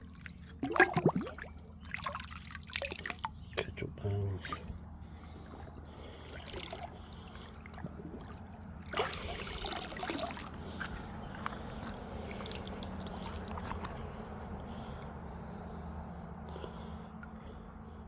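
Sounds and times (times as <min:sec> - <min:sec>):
creek water trickling and splashing: 0:00.0 - 0:14.6.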